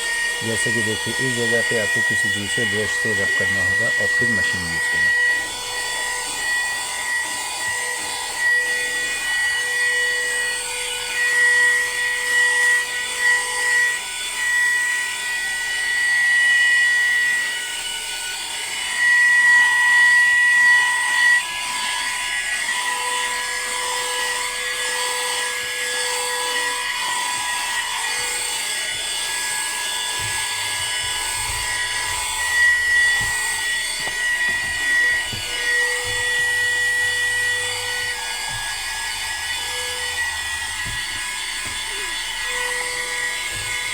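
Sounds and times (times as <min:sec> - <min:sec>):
handheld vacuum cleaner running: 0:00.0 - 0:43.9.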